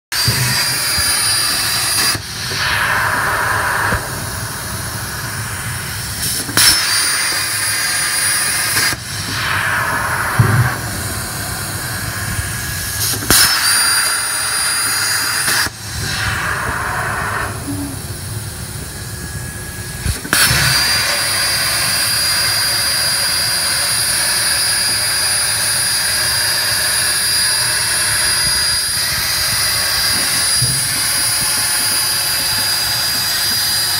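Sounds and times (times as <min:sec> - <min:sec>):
plasma cutter hissing: 0:00.2 - 0:33.9.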